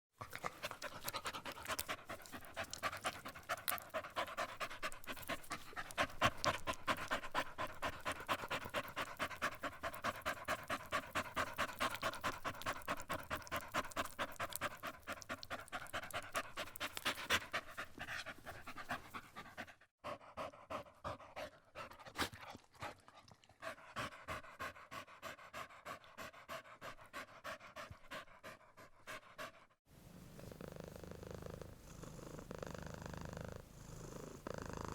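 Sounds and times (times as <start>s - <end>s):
dog panting: 0.2s - 29.8s.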